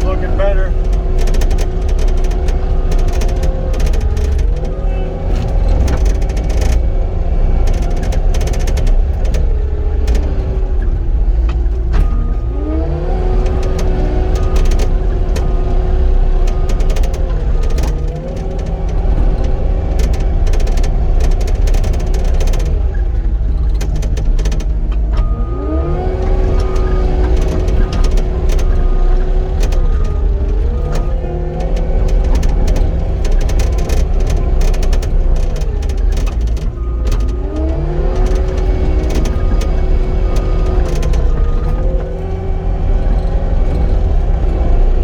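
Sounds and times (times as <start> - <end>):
clicks and rattles: 0.0 - 12.7, 13.3 - 45.0
track loader engine and hydraulics: 0.0 - 45.0.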